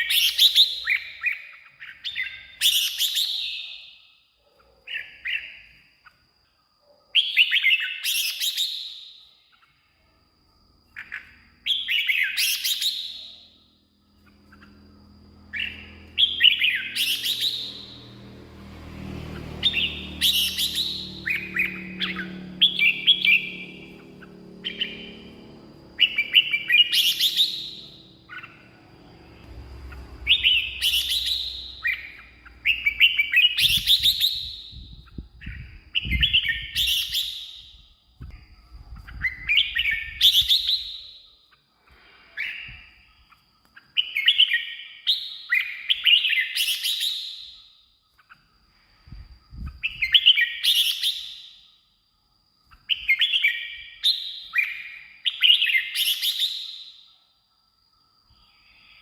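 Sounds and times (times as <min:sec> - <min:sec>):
bird singing warbled phrases: 0:00.0 - 0:06.2, 0:07.2 - 0:09.9, 0:10.8 - 0:41.6, 0:42.2 - 0:48.5, 0:52.6 - 0:57.1.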